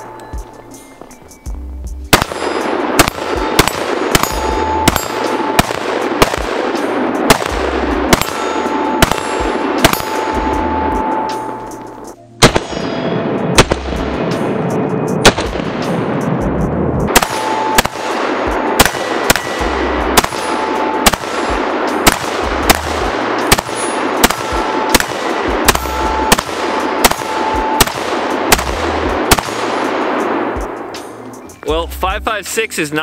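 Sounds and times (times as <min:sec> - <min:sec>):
background music with beat: 0:00.0 - 0:33.0
rifle gunshots: 0:02.1 - 0:11.1, 0:12.4 - 0:16.4, 0:17.1 - 0:30.9.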